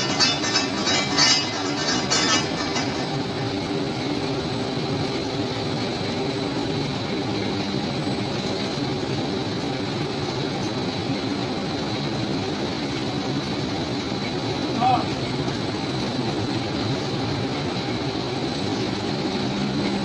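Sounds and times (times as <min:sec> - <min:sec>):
fabric winding machine drone: 0:00.0 - 0:20.0.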